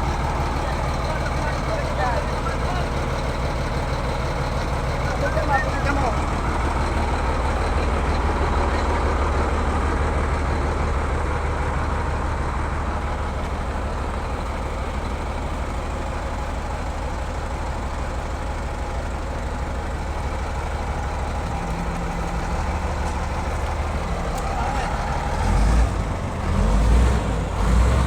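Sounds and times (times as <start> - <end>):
heavy diesel engine humming: 0.0 - 28.0.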